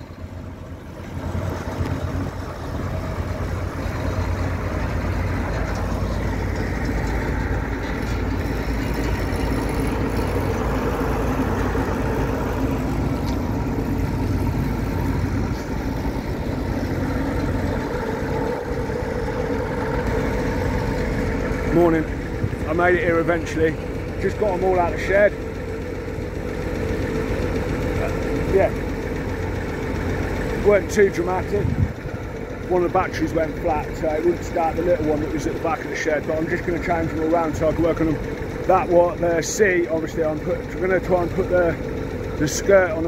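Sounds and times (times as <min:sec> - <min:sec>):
combine harvester engine idling: 0:00.0 - 0:43.0.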